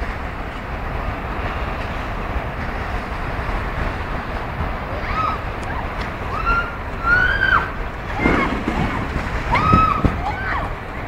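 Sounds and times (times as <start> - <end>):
turbulent water rushing: 0.0 - 11.0.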